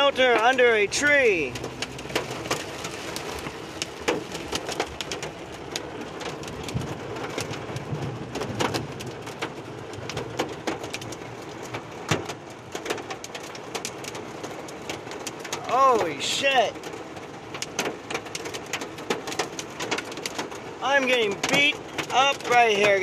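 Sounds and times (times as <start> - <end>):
hailstones striking: 0.0 - 23.0
rain on vehicle roof: 0.0 - 23.0.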